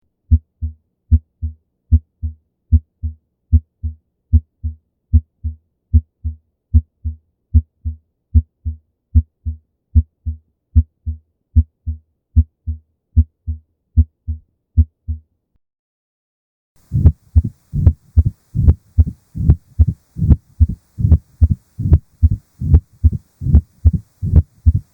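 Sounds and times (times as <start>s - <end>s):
heartbeat: 0.3s - 15.3s, 16.8s - 24.9s.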